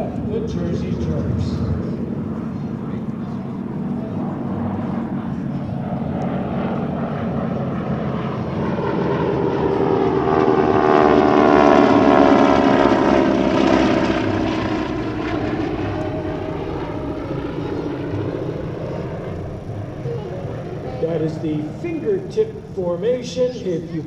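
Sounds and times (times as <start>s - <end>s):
propeller planes flying by: 0.0s - 24.0s.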